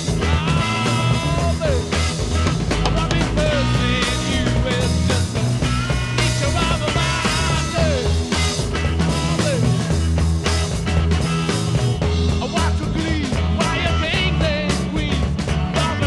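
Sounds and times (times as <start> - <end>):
rock music with bass: 0.0 - 16.0.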